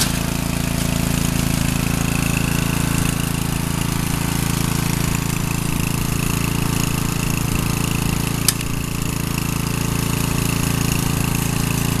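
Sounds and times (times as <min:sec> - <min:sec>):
riding mower engine running: 0:00.0 - 0:12.0.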